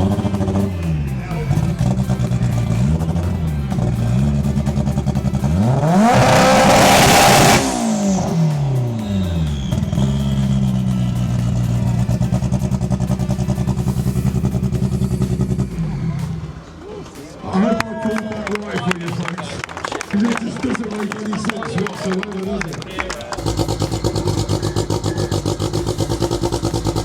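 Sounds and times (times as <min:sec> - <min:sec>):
car engine revving: 0:00.0 - 0:17.8, 0:22.7 - 0:27.0.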